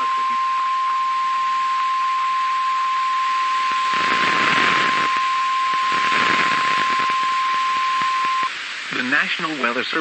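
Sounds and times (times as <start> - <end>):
steady high alarm tone: 0.0 - 8.5
radio static hiss: 0.0 - 10.0.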